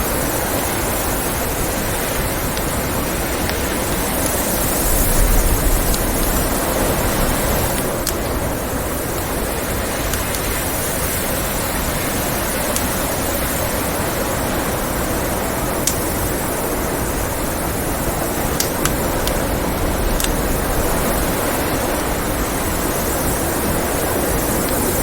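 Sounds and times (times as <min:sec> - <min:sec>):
blizzard wind rushing: 0:00.0 - 0:25.0
wood fire crackling: 0:00.0 - 0:25.0.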